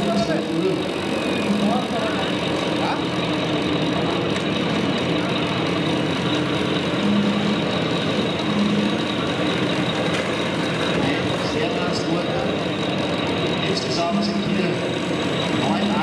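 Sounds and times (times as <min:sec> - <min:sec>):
simulated diesel engine idling: 0:00.0 - 0:16.0.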